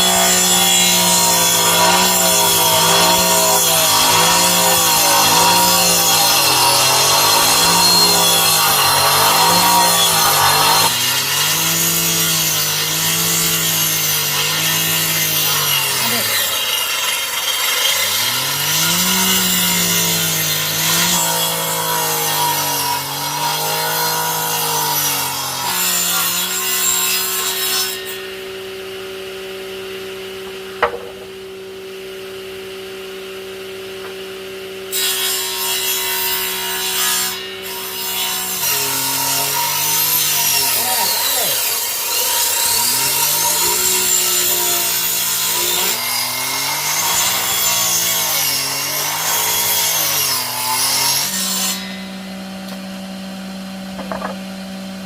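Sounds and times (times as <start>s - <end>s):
saw blade rasping in wood: 0.0s - 28.3s, 34.9s - 52.0s
electric saw cutting wood: 0.0s - 32.0s, 33.4s - 55.0s.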